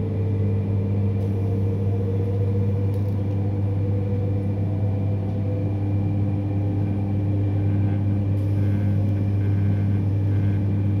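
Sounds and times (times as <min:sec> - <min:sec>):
train cabin low hum: 0:00.0 - 0:11.0.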